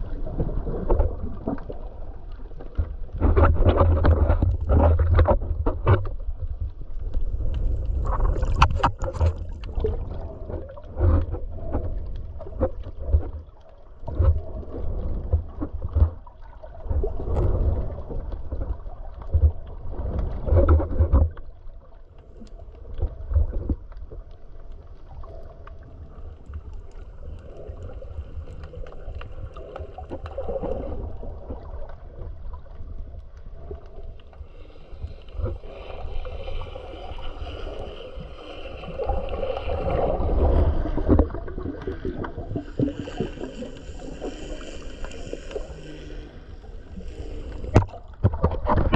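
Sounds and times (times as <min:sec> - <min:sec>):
muffled underwater rumble and sloshing: 0:00.0 - 0:48.9.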